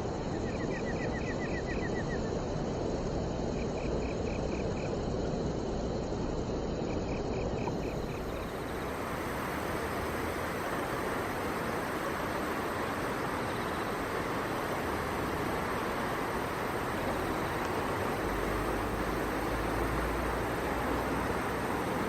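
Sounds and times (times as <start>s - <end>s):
insect chirping: 0.0s - 22.0s.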